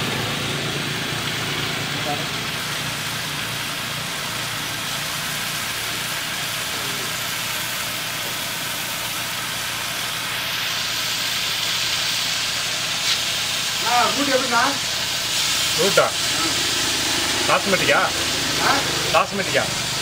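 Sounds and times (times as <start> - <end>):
oil frying in a wok: 0.0 - 20.0.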